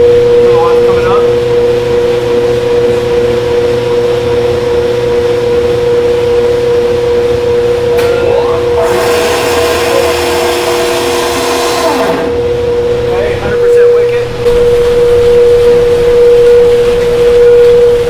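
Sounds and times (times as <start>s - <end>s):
turbine generator whine: 0.0s - 18.0s.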